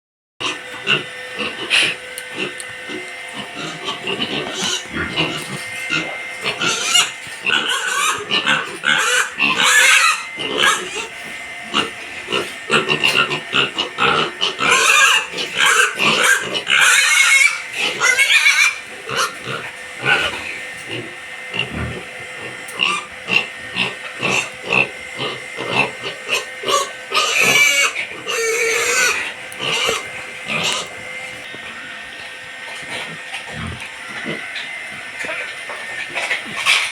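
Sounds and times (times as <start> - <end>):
piglets grunting: 0.4 - 36.9
piglets squealing: 0.4 - 36.9.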